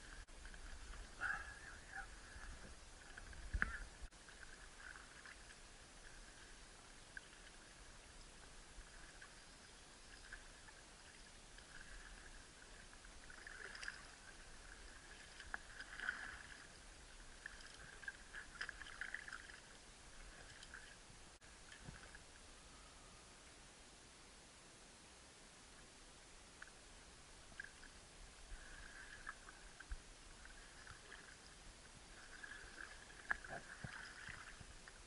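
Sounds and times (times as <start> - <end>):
paddle splashes and drips: 0.0 - 22.3, 27.4 - 35.0.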